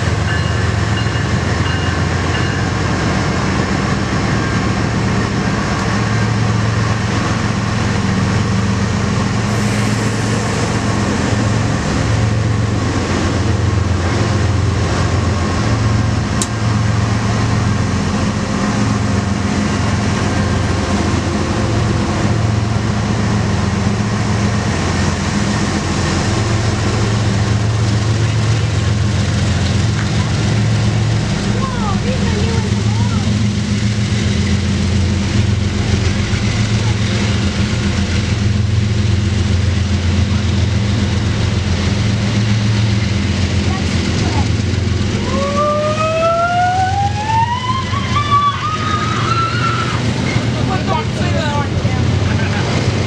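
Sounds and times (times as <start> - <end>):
diesel locomotive engine drone: 0.0 - 53.0
wheels rushing on rail: 0.0 - 53.0.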